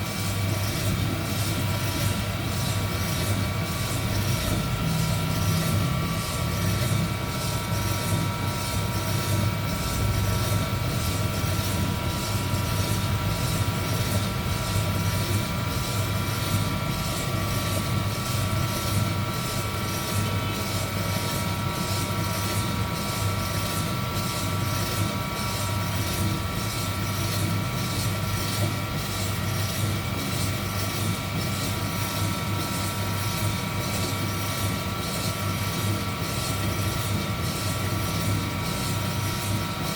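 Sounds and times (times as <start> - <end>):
fan motor whine: 0.0 - 39.9.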